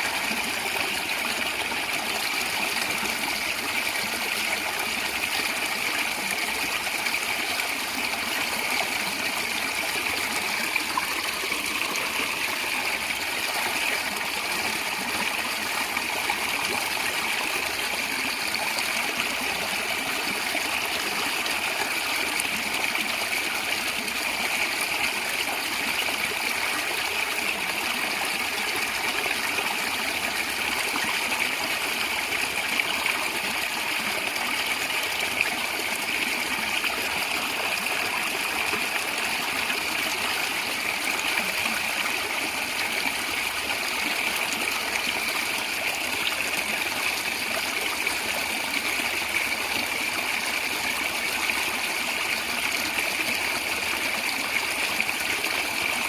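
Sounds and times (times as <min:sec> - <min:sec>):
stream water gurgling: 0:00.0 - 0:56.0.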